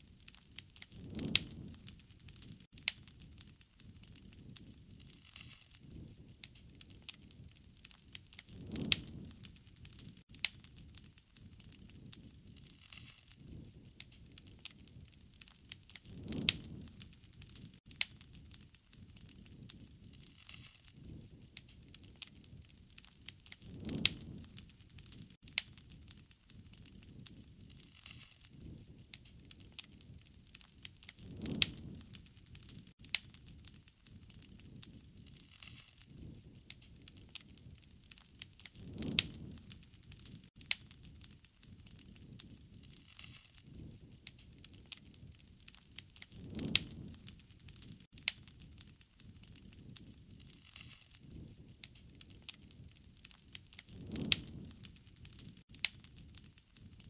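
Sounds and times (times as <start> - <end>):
campfire crackling and popping: 0.0 - 57.0
low whoosh of flame: 0.0 - 57.0.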